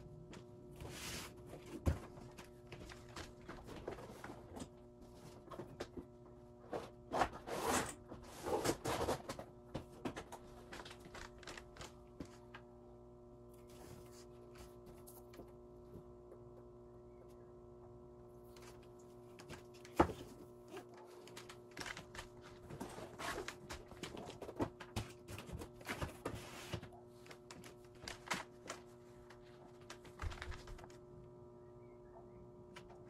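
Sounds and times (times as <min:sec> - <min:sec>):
lamp ballast electrical hum: 0:00.0 - 0:33.0.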